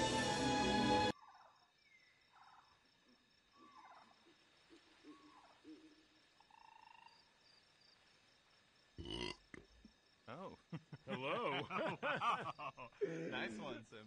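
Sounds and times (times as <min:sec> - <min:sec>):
insects chirping: 0:01.1 - 0:14.0.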